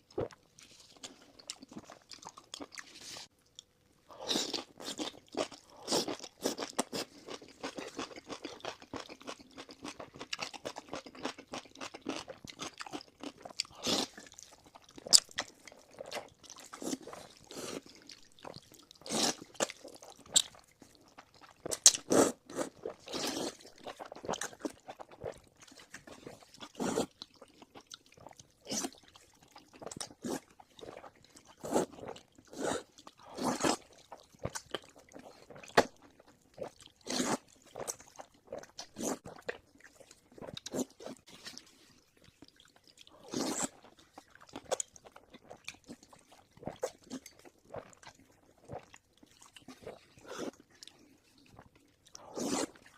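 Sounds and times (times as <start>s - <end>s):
chewing and crunching food: 0.0s - 52.9s.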